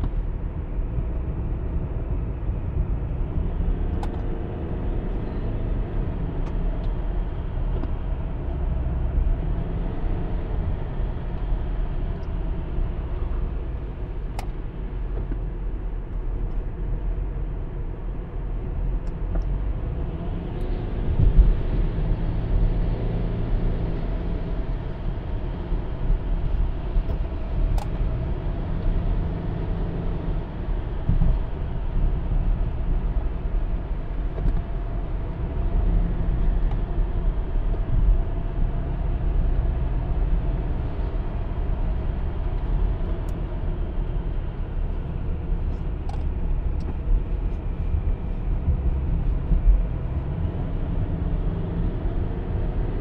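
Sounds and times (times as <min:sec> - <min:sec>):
car interior road and engine rumble: 0:00.0 - 0:53.0.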